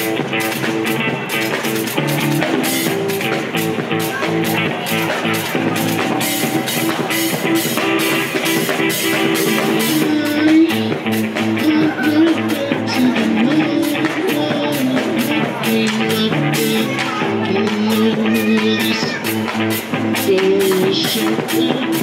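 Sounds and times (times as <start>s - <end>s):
drum beat: 0.0s - 22.0s
electric guitars: 0.0s - 22.0s.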